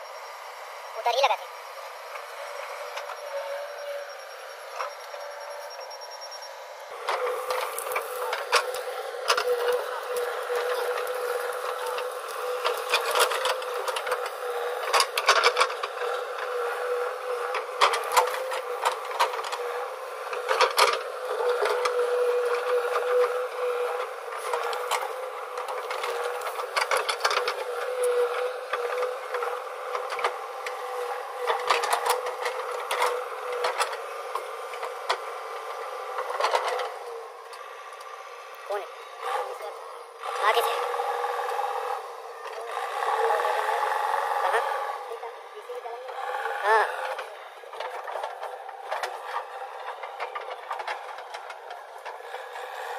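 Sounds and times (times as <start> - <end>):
diesel engine under load: 0.0 - 52.9.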